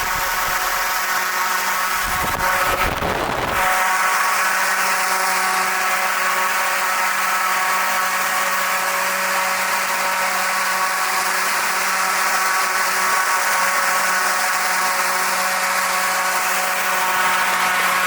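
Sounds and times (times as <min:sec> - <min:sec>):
blower motor whine: 0:00.0 - 0:18.0.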